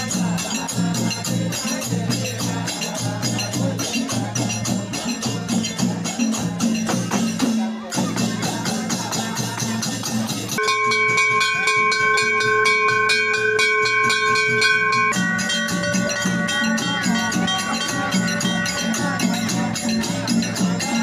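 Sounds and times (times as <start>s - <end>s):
brass bell rung rapidly: 0.0s - 21.0s
hand drums: 0.0s - 21.0s
ringing metal percussion: 0.0s - 21.0s.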